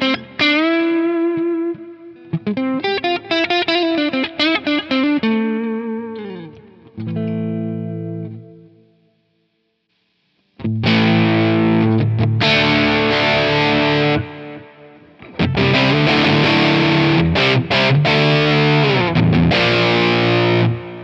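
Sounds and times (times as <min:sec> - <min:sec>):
overdriven electric guitar: 0:00.0 - 0:09.1, 0:10.4 - 0:21.0.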